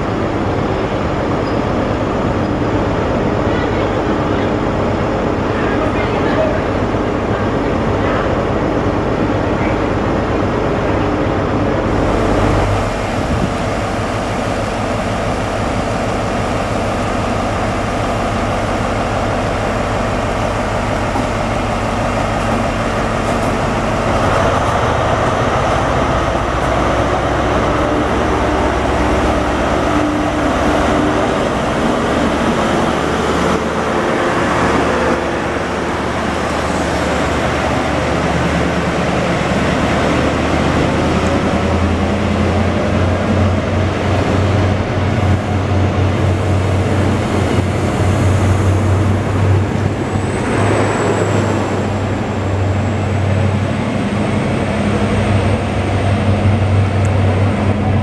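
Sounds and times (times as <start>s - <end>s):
diesel train engines running: 0.0s - 58.0s
train coaches rolling on rails: 0.0s - 58.0s.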